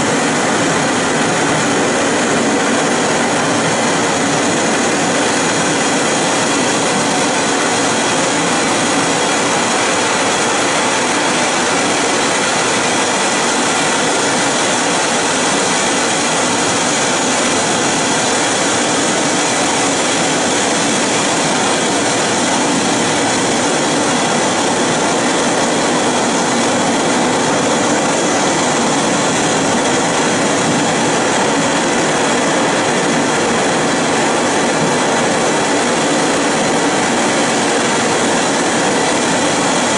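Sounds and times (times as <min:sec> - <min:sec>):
loud steady rushing noise: 0:00.0 - 0:39.9.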